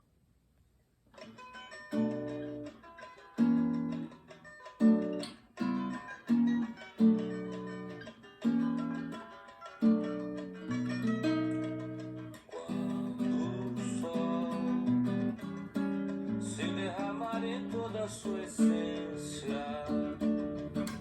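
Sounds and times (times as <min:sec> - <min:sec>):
acoustic guitar chords: 0:01.2 - 0:21.0.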